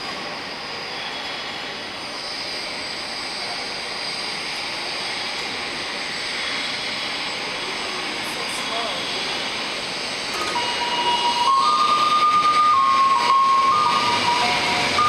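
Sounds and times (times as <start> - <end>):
train approaching rushing noise: 0.0 - 15.0.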